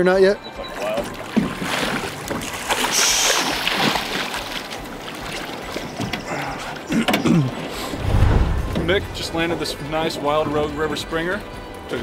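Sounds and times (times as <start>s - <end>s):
water splashing and sloshing: 0.6s - 12.0s.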